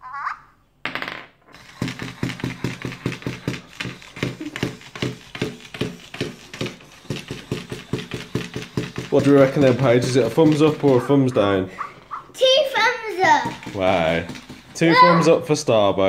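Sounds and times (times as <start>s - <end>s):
toy feet tapping on wood: 1.5s - 15.4s
toy motor running: 1.5s - 15.5s.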